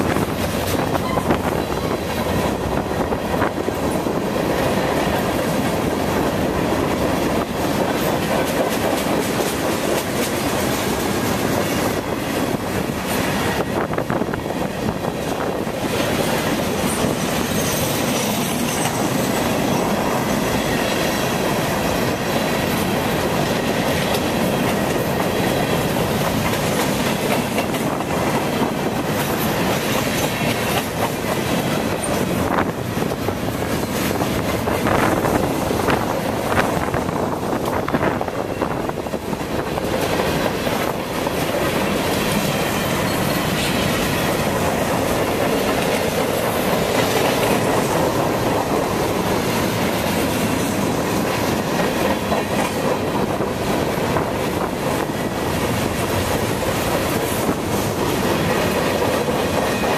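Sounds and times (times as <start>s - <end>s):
freight train cars rumbling past: 0.0s - 59.9s.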